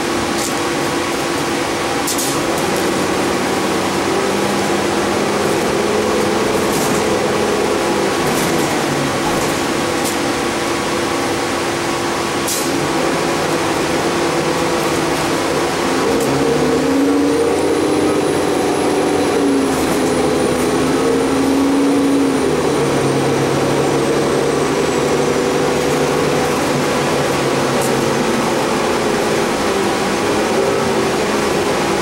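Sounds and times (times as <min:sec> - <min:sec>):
bus engine running: 0:00.0 - 0:32.0.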